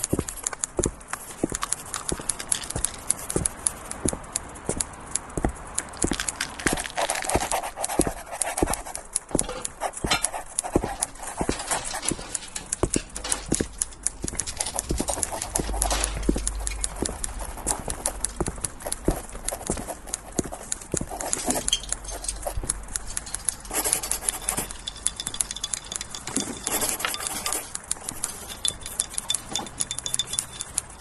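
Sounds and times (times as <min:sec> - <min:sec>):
sharp clicks and knocks: 0:00.0 - 0:31.0.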